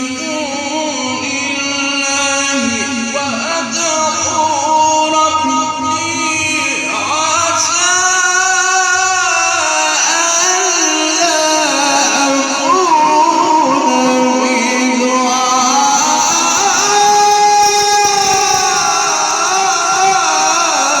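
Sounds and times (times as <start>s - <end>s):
man chanting through sound system: 0.0s - 21.0s.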